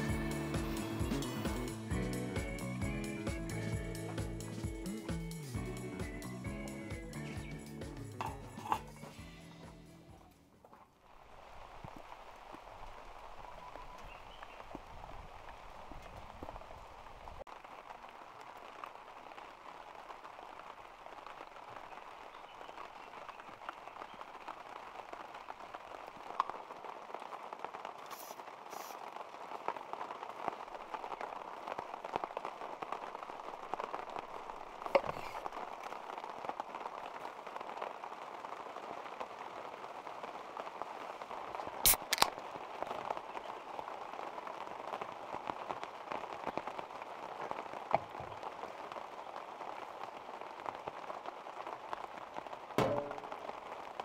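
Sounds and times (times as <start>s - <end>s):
rain pattering: 0.0s - 9.4s, 10.1s - 54.0s.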